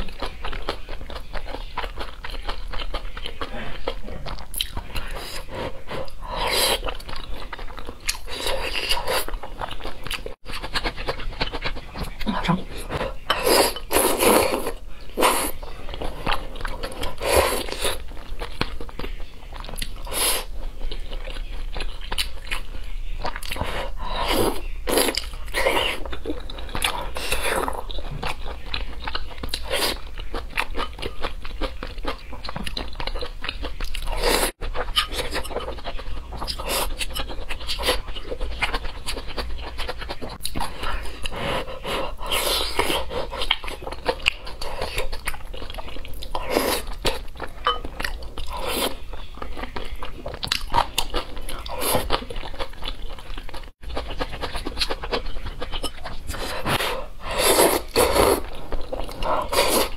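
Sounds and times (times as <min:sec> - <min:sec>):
close chewing and biting: 0:00.0 - 0:59.9.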